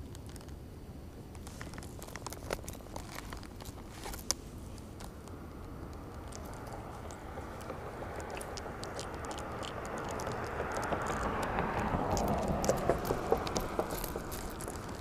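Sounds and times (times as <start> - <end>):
handling fishing tackle: 1.3 - 15.0.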